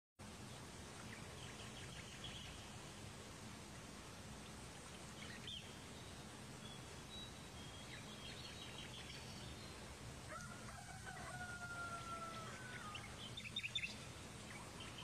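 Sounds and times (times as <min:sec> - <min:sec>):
outdoor background hiss: 0:00.2 - 0:15.0.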